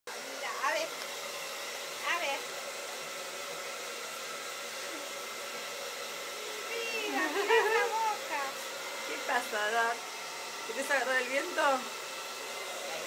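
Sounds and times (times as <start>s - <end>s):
hair dryer running: 0.1s - 13.0s.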